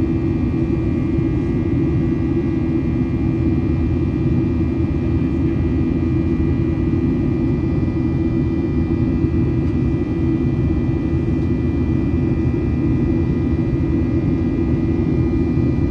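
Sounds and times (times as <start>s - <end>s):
jet engines rumbling in cabin: 0.0s - 15.9s.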